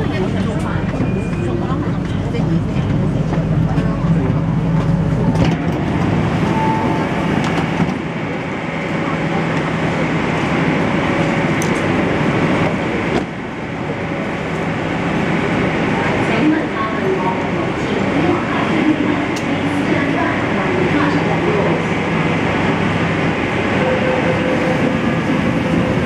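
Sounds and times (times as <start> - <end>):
passengers talking: 0.0 - 26.0.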